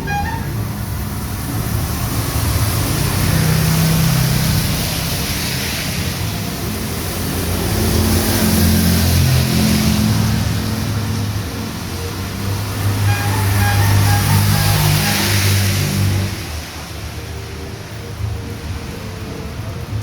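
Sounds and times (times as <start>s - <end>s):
heavy rain on a street: 0.0s - 20.0s
vehicles passing on wet road: 0.0s - 20.0s.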